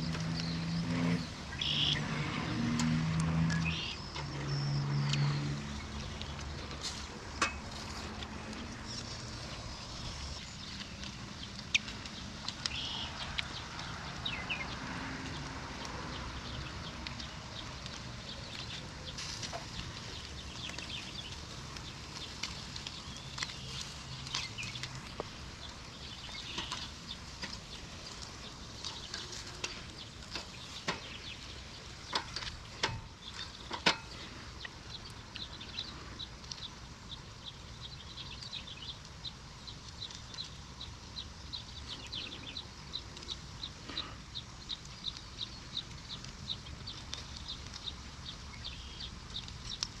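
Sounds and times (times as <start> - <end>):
birds calling: 0.0 - 50.0.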